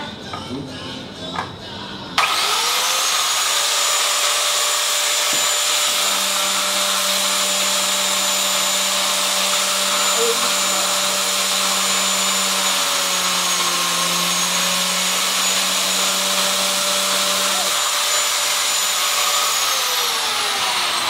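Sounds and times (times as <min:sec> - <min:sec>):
biscuit jointer whining: 0:02.2 - 0:21.0
motor winding down: 0:02.2 - 0:21.0.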